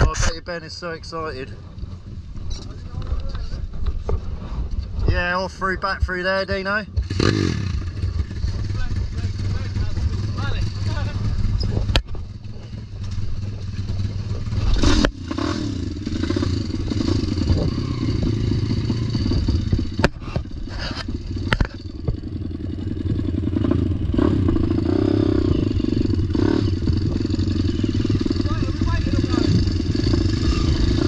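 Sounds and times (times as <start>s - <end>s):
motorbike engine running at low revs: 0.0s - 31.0s.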